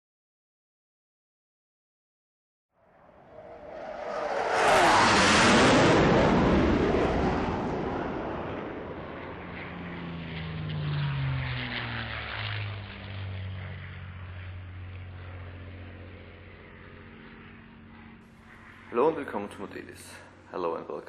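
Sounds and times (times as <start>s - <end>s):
propeller aircraft flying past: 2.8s - 21.0s.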